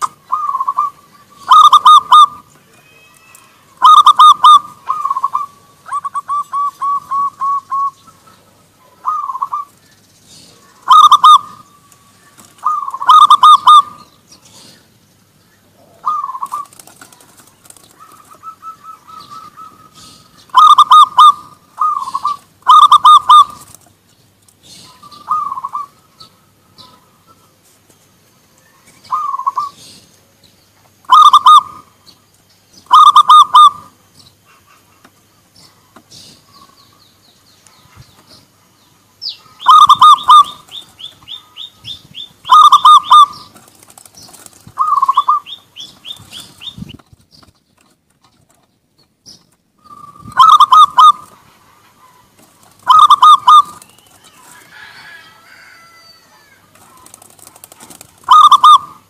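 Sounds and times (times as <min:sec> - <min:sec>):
doves cooing: 0:00.0 - 0:15.0, 0:15.6 - 0:23.9, 0:24.5 - 0:27.6, 0:28.7 - 0:30.4, 0:31.0 - 0:32.0, 0:32.9 - 0:36.9, 0:39.3 - 0:47.1, 0:49.8 - 0:59.0.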